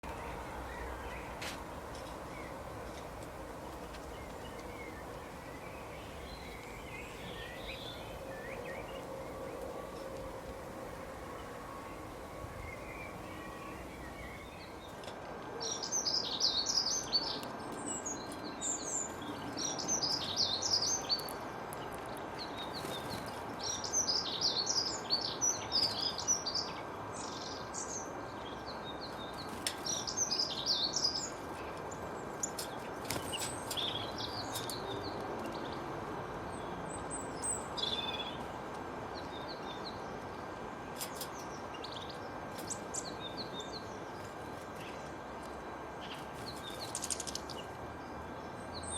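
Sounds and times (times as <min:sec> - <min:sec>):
background hiss: 0:00.0 - 0:48.9
songbirds chirping: 0:00.0 - 0:48.9.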